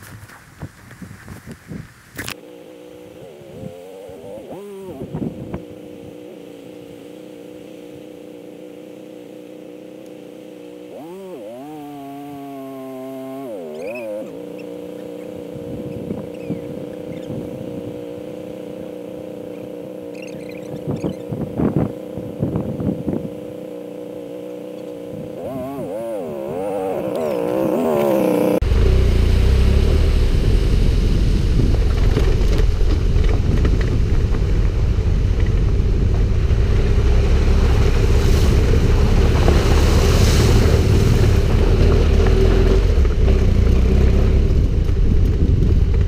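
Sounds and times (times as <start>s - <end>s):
motorcycle engine running: 2.3s - 46.0s.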